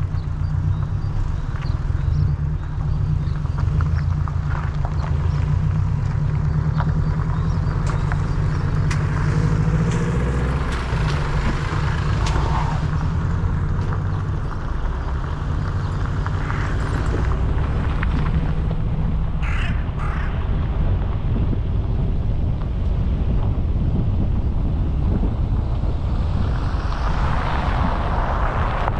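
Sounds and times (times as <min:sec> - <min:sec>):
vehicle engine rumble: 0:00.0 - 0:28.9.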